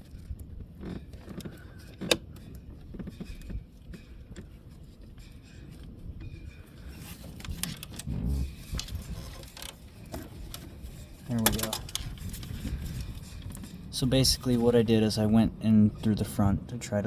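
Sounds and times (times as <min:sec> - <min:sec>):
metal pick clicking and scraping: 0:00.0 - 0:13.9.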